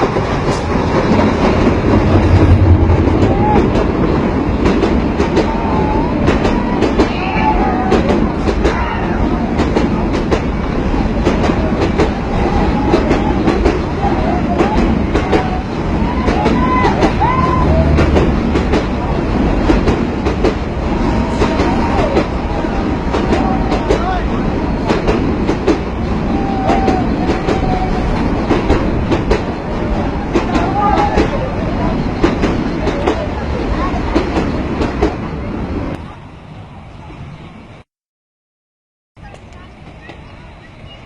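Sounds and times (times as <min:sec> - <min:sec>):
wheels clacking over rail joints: 0:00.0 - 0:35.3
train rumbling: 0:00.0 - 0:37.9, 0:39.2 - 0:41.0.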